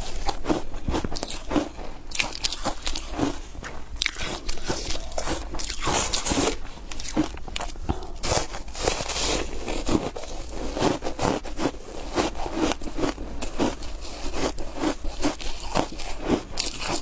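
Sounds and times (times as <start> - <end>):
foam ice crunching when chewed: 0.0 - 17.0.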